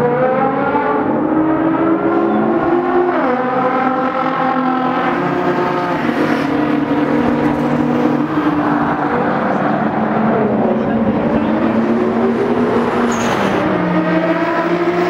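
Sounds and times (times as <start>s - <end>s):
cars accelerating hard: 0.0s - 15.0s.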